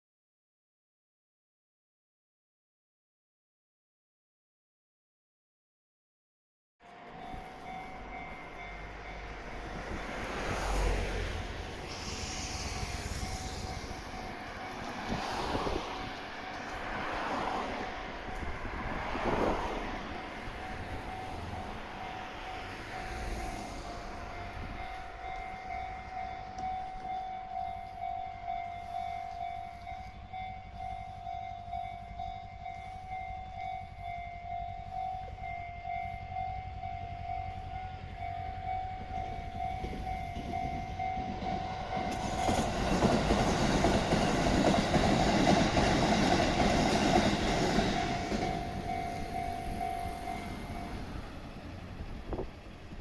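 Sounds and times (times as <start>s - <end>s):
level crossing warning bell: 6.8s - 11.8s, 12.9s - 51.6s
electric train passing: 6.8s - 53.0s.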